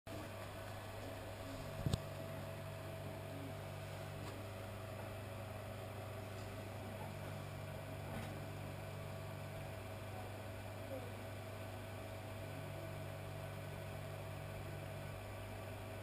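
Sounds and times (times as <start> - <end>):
aquarium pumps humming: 0.1 - 16.0
higher electrical hum: 0.1 - 16.0.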